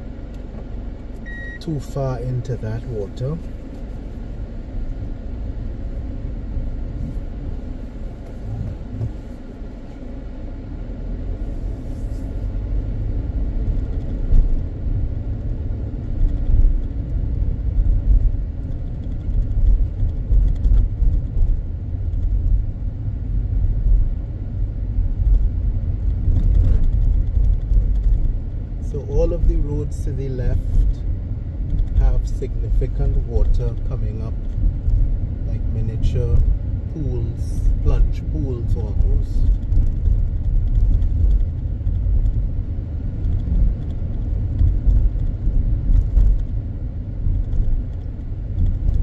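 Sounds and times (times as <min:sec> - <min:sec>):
car engine rumble: 0:00.0 - 0:49.0
road noise: 0:00.0 - 0:49.0.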